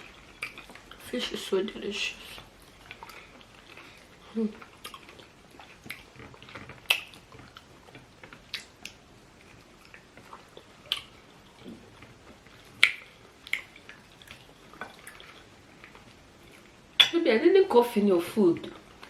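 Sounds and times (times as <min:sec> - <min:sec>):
person chewing: 0:00.0 - 0:01.1, 0:02.2 - 0:17.1.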